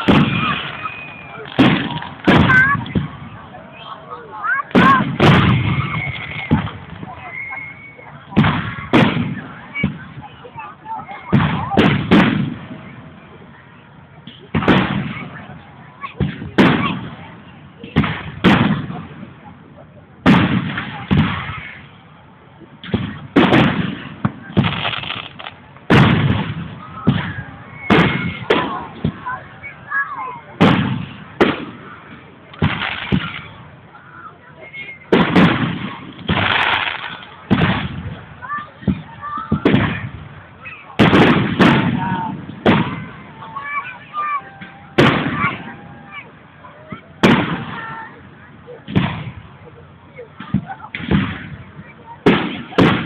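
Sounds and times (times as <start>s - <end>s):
fireworks booms with echo: 0.0s - 7.3s, 8.0s - 13.3s, 14.3s - 22.0s, 22.8s - 33.8s, 34.7s - 53.0s
faint people's voices: 0.0s - 53.0s.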